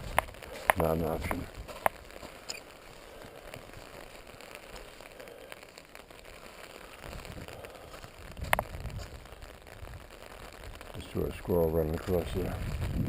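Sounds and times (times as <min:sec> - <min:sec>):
rain pattering on an umbrella: 0:00.0 - 0:13.0.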